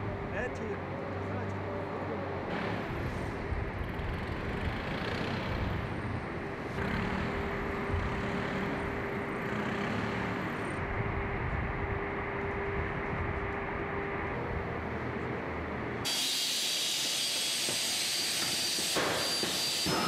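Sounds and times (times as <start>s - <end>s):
industrial noise with hum: 0.0s - 20.0s.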